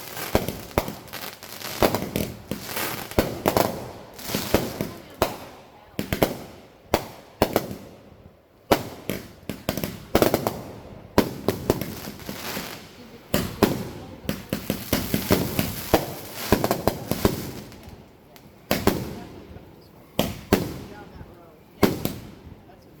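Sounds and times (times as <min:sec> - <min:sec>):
fireworks bangs and crackling: 0:00.0 - 0:22.8.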